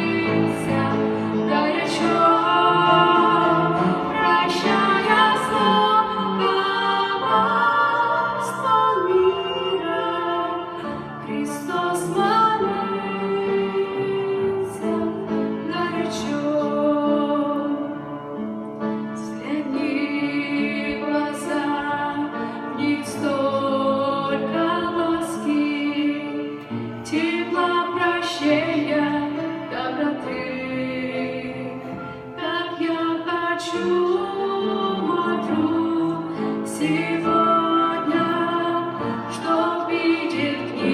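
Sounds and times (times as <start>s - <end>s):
women singing a duet: 0.0s - 18.0s, 19.2s - 40.9s.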